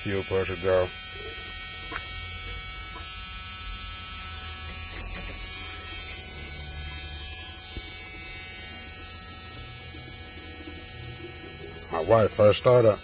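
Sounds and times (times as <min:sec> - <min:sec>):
electric motor buzz and hum: 0:00.0 - 0:13.0.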